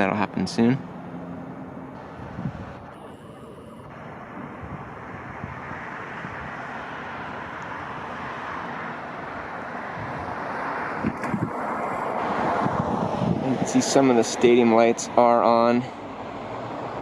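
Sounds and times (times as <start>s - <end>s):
vehicle rushing: 0.0s - 17.0s.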